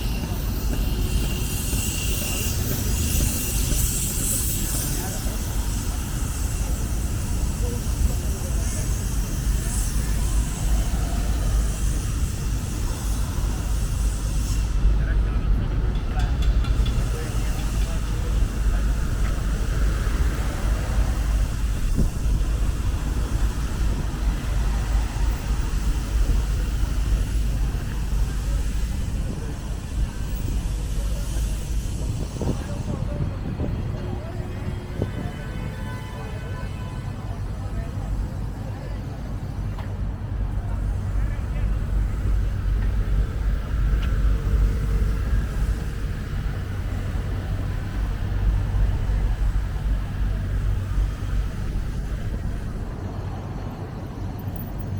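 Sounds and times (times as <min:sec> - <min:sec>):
wind buffeting microphone: 0:00.0 - 0:36.2, 0:39.9 - 0:54.9
low city rumble: 0:00.0 - 0:54.9.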